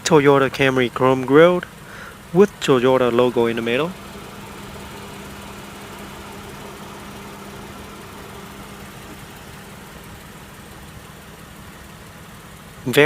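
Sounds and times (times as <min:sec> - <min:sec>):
engine-like hum: 0:00.0 - 0:13.0.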